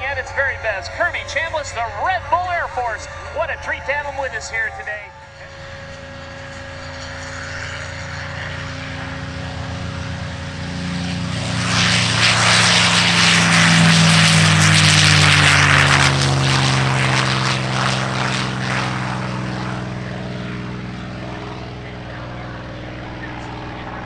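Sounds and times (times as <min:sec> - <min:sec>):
propeller plane engine at takeoff: 0:00.0 - 0:24.0.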